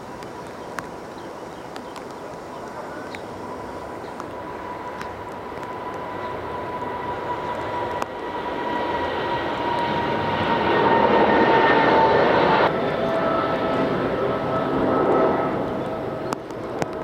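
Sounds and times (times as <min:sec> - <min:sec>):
jet engines roaring: 0:02.0 - 0:17.0
jet engine whine: 0:02.2 - 0:17.0.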